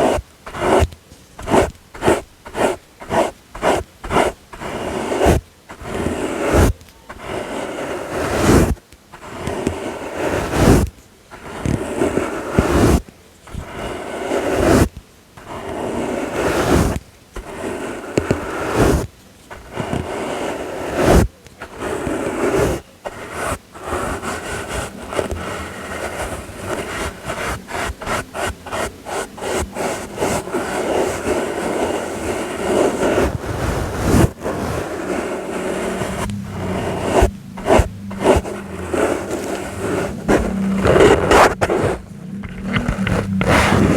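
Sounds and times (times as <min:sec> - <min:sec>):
brush sweeping: 0:00.0 - 0:43.9.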